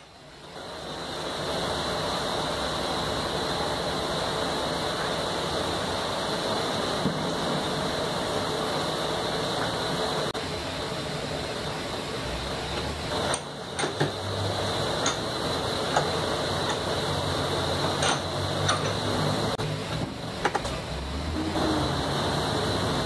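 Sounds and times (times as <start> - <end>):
forge blower humming: 0.1 - 23.0.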